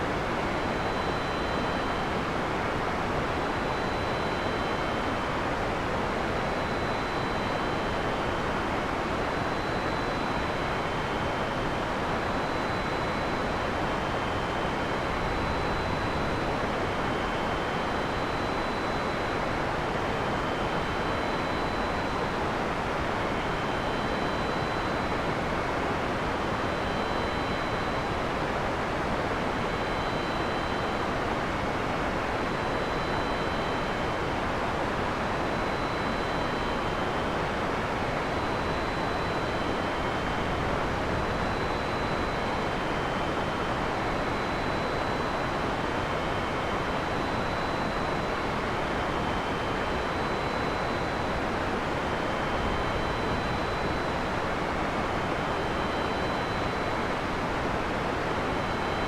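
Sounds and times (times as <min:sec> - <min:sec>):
faint high-pitched tones: 0:00.0 - 0:59.0.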